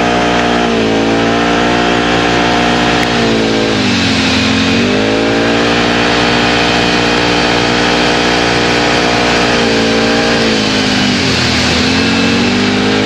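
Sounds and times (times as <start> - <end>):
atv engine running loud: 0.0 - 13.0.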